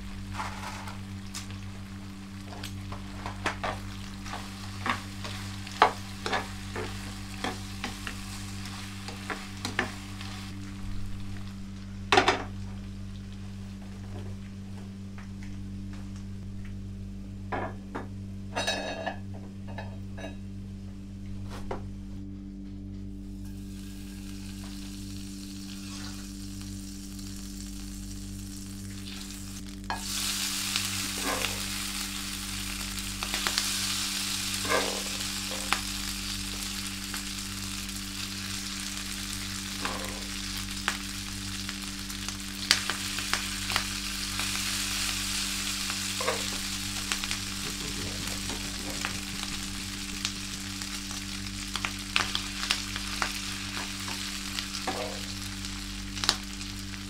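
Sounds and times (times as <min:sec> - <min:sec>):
food frying sizzle: 0:00.0 - 0:16.8, 0:23.2 - 0:57.0
low hum: 0:00.0 - 0:57.0.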